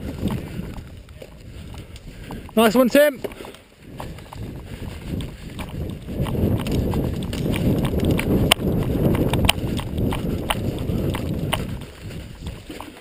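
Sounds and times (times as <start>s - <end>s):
footsteps: 0.0s - 13.0s
gear rustling: 0.1s - 13.0s.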